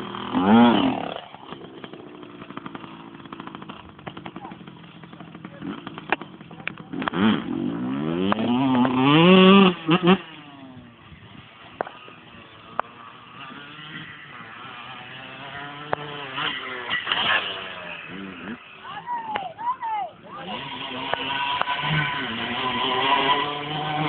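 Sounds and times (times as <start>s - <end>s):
motorcycle engines accelerating: 0.0s - 24.0s
quieter engine running: 0.0s - 24.0s.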